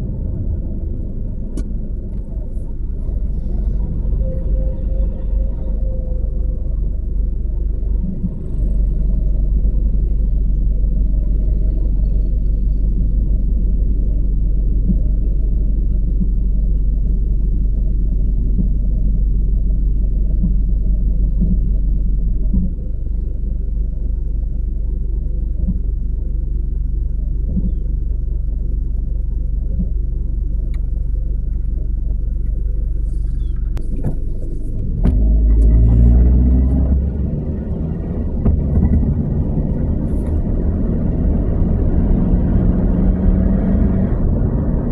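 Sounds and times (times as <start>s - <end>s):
vehicle road and engine rumble: 0.0s - 44.9s.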